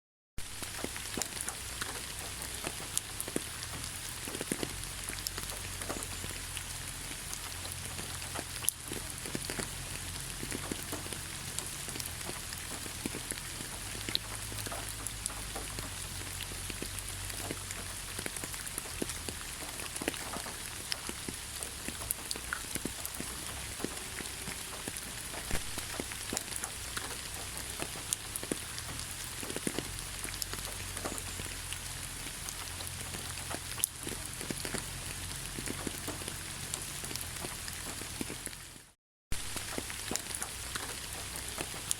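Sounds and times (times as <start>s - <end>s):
raindrops ticking close by: 0.4s - 41.9s
steady rain hiss: 0.4s - 41.9s.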